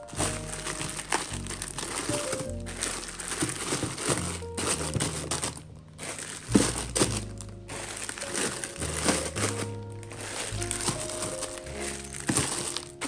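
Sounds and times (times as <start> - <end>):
background music: 0.0 - 13.0
plastic packets crinkling: 0.0 - 13.0.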